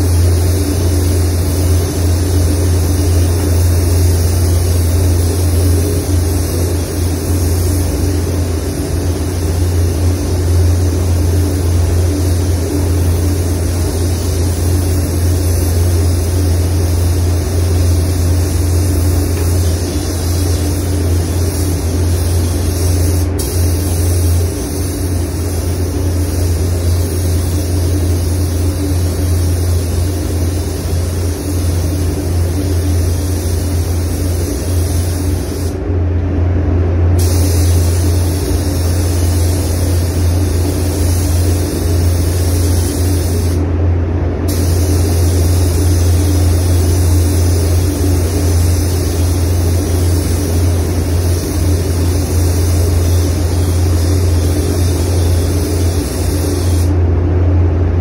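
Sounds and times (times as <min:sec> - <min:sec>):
paint spray gun hissing: 0:00.0 - 0:35.8, 0:37.2 - 0:43.6, 0:44.5 - 0:57.0.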